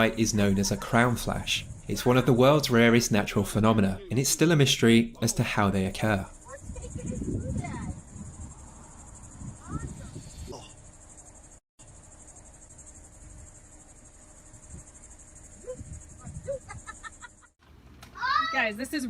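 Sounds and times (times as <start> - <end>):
insects chirring: 0.0 - 17.6.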